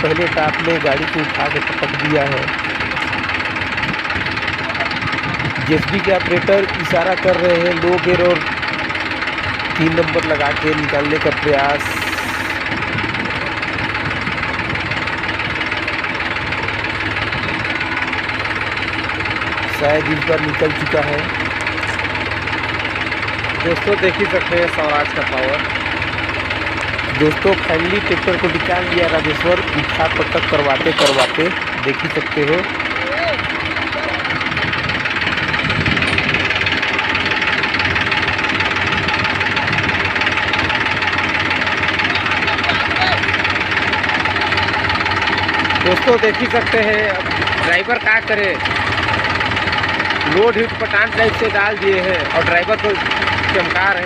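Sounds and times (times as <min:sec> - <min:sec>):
backhoe diesel engine running: 0:00.0 - 0:54.0
tractor diesel engine working hard: 0:00.0 - 0:54.0.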